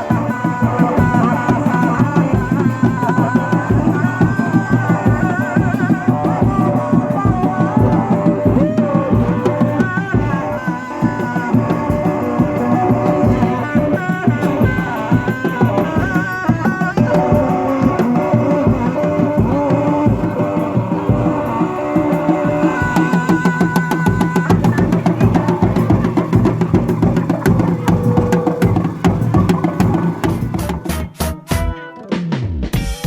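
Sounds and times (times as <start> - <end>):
wavering melody: 0.0 - 31.4
drums beating busy rhythm: 0.0 - 33.0.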